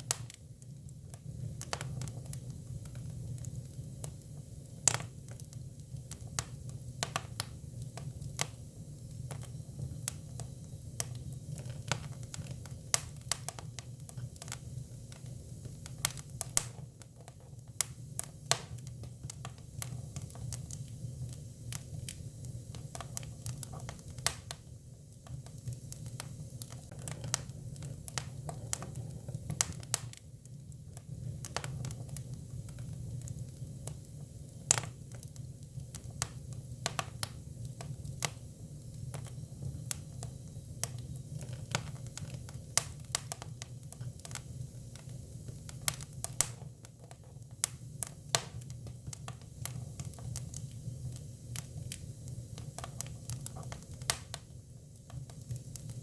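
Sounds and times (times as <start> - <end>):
firewood crackling and popping: 0.0 - 56.0.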